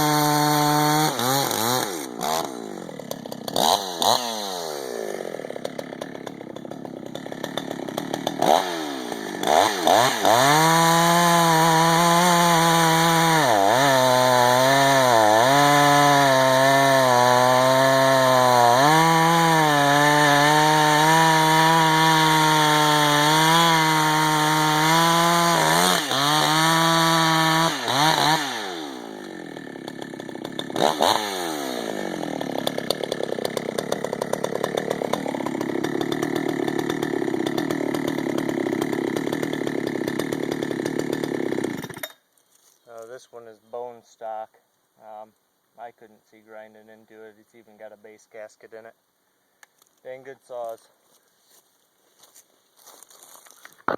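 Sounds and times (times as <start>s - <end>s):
chainsaw cutting wood: 0.0s - 42.2s, 52.9s - 53.9s.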